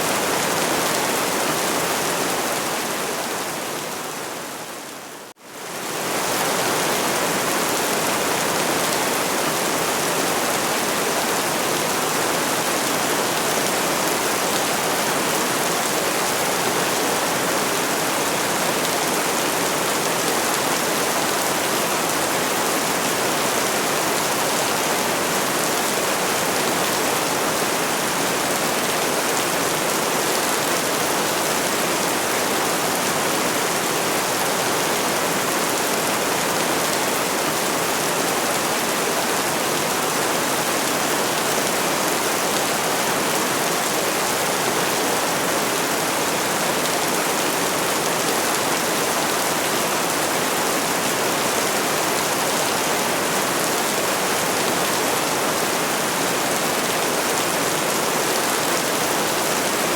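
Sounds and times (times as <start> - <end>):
steady dense rain: 0.0 - 59.9.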